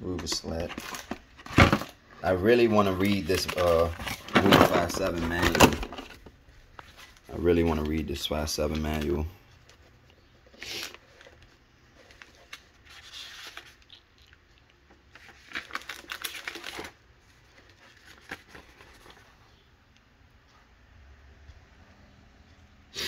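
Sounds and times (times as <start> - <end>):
paper rustling and crinkling: 0.1 - 19.4.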